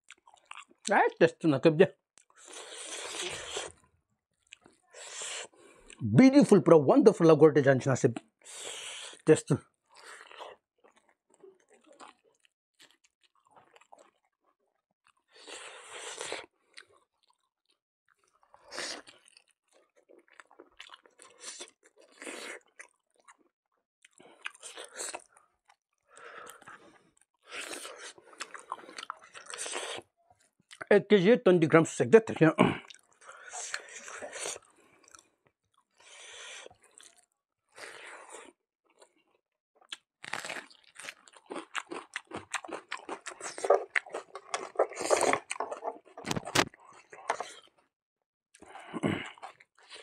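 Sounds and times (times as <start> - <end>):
person chewing: 0.0 - 1.2, 2.2 - 6.1, 8.2 - 14.4, 15.0 - 23.4, 24.0 - 30.9, 32.6 - 47.9, 48.5 - 50.0.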